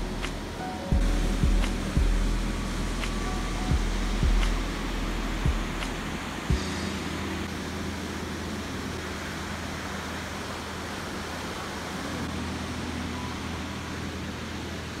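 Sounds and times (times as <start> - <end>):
low ship engine hum: 0.0 - 15.0
ship wake churning: 0.0 - 15.0.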